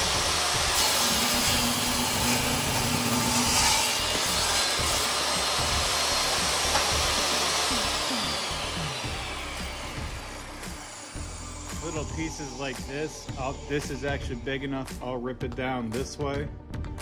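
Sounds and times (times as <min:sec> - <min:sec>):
table saw cutting wood: 0:00.0 - 0:15.0.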